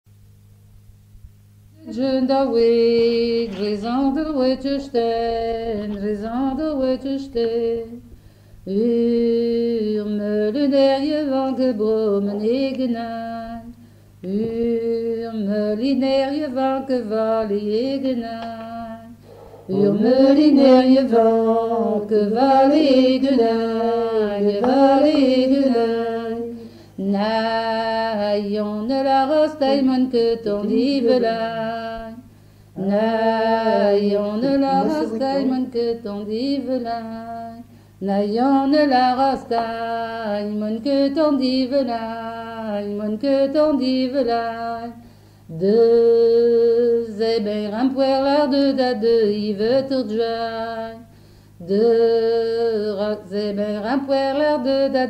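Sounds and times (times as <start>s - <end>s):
low tape hum: 0.1s - 55.0s
unaccompanied folk singing: 1.8s - 8.1s, 8.7s - 51.0s.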